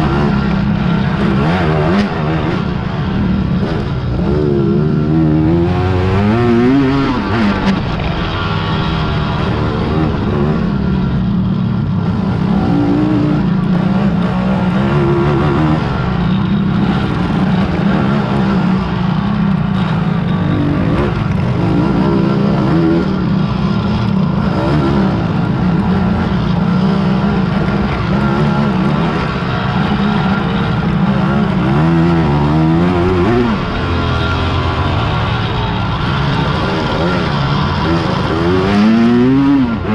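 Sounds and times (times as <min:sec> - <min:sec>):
quad bike engines revving: 0:00.0 - 0:39.9.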